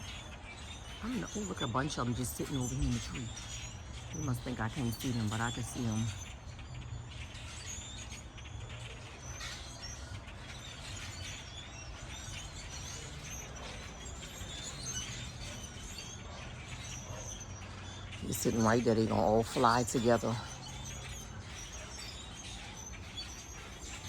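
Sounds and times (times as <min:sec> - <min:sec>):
flock of birds chirping: 0:00.0 - 0:24.0.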